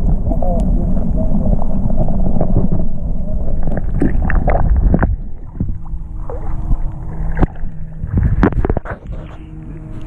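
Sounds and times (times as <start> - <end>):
faint steady hum: 0.0 - 10.0
water rushing against camera housing: 0.0 - 10.0.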